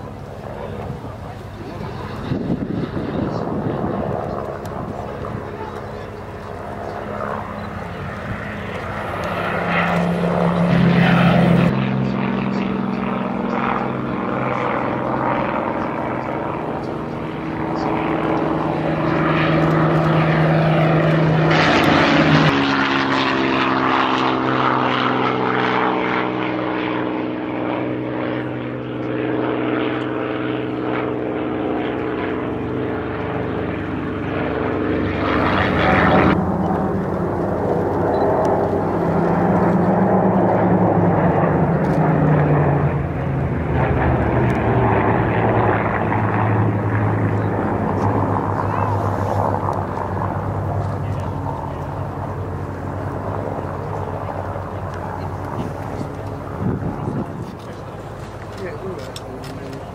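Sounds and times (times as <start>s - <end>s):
propeller aircraft engines droning: 0.0s - 59.9s.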